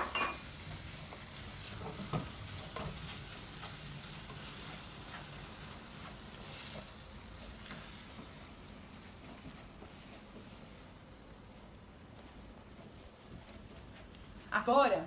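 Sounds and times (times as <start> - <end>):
food sizzling in a pan: 0.0 - 13.1.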